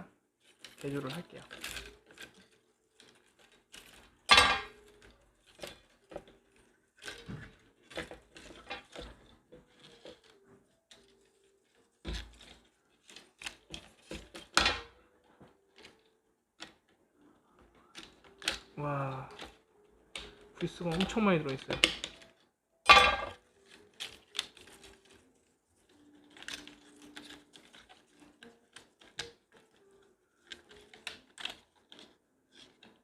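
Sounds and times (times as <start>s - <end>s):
plastic parts clicking and tapping: 0.4s - 33.0s.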